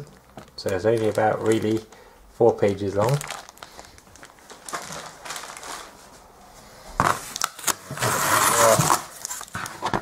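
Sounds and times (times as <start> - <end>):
packaging rustling and clicking: 0.0 - 2.0, 2.6 - 6.1, 7.0 - 10.0
crinkling scraping rustle: 0.0 - 10.0.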